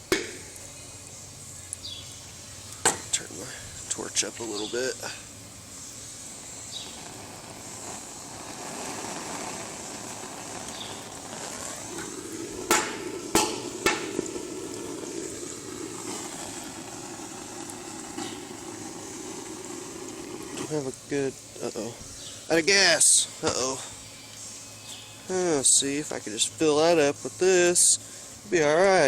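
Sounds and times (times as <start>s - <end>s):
gas hissing and bubbling: 0.0s - 29.0s.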